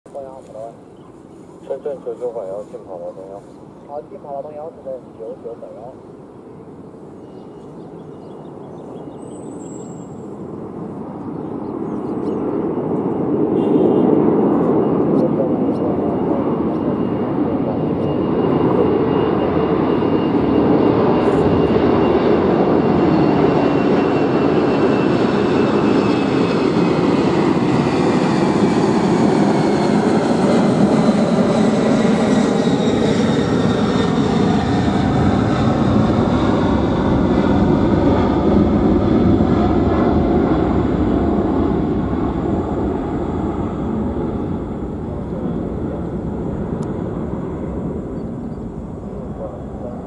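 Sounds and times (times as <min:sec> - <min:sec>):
jet airplane roar passing overhead: 0:00.1 - 0:50.0.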